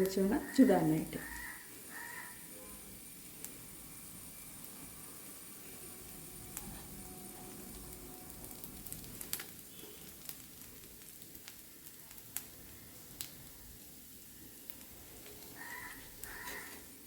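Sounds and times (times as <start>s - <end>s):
batter sizzling on a griddle: 0.0s - 17.0s.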